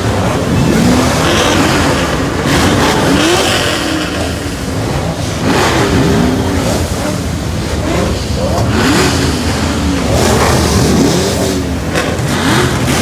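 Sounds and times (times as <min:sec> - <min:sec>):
many car engines revving: 0:00.0 - 0:13.0.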